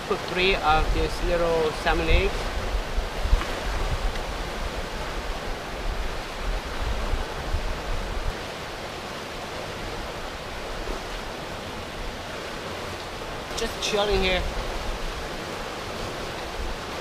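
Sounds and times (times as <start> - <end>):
river water rushing over rocks: 0.0 - 17.0.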